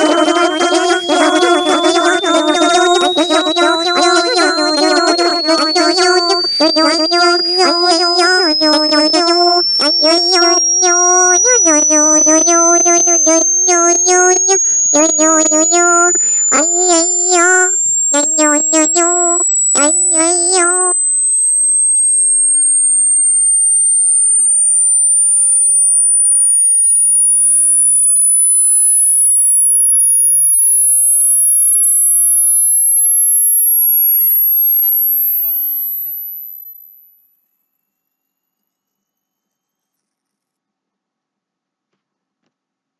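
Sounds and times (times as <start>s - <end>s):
high-pitched rising sine tone: 0.0s - 40.3s.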